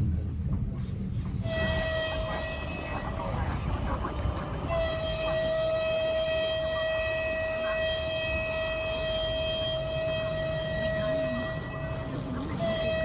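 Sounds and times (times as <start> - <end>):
low rumble of train: 0.0 - 13.0
locomotive horn blast: 1.4 - 13.0.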